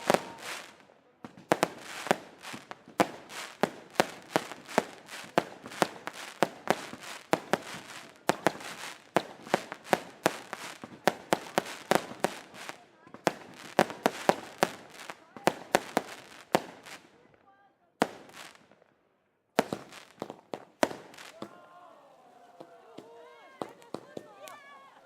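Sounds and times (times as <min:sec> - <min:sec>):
fireworks bangs: 0:00.0 - 0:17.4, 0:18.0 - 0:18.8, 0:19.6 - 0:21.6.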